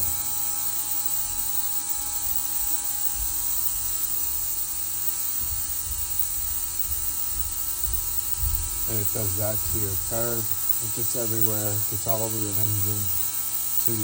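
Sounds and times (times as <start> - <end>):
parts cleaner buzzing hum: 0.0 - 14.0.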